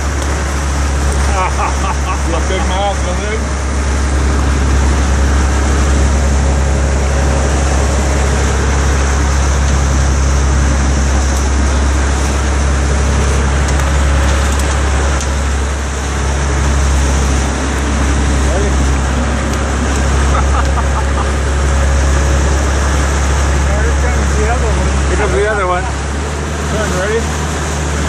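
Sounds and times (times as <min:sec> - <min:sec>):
boat engine droning: 0:00.0 - 0:28.0
water churning in wake: 0:00.0 - 0:28.0.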